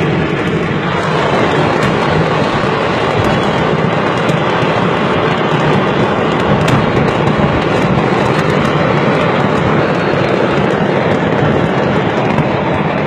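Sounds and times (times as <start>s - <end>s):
fireworks crackling and popping: 0.0s - 13.0s
moving car rumble: 0.0s - 13.0s.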